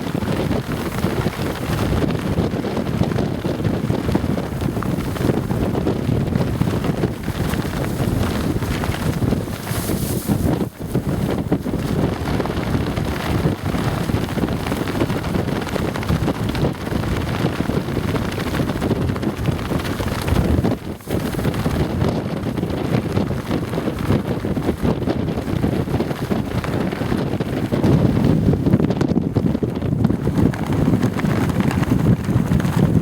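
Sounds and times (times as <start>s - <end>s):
pants flapping in wind: 0.0s - 33.0s
wind gusts buffeting microphone: 0.0s - 33.0s.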